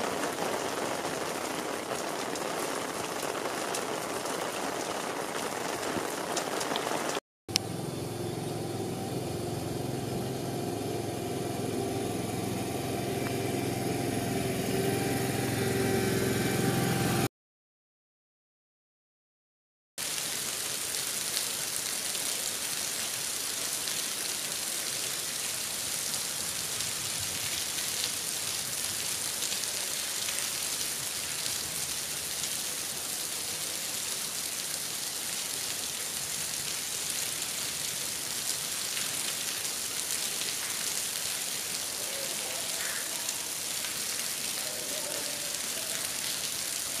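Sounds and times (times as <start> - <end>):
rain hissing: 0.0 - 17.3, 20.0 - 47.0.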